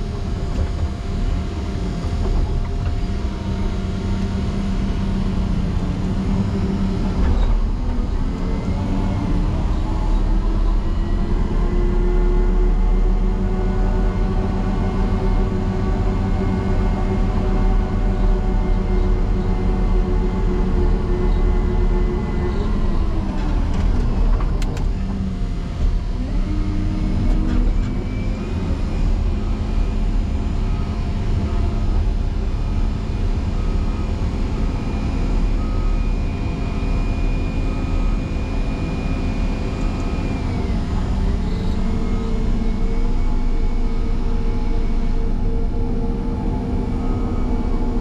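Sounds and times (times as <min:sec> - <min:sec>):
diesel engine running hard: 0:00.0 - 0:48.0.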